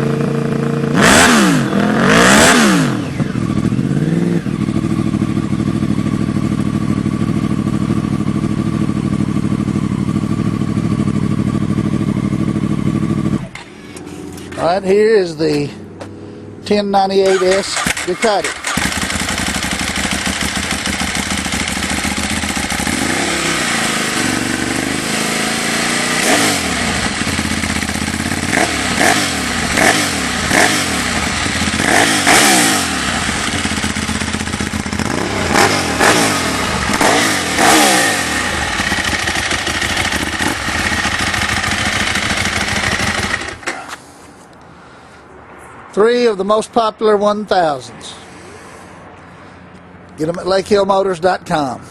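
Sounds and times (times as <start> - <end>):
motorcycle engine idling and revving: 0.0 - 44.4.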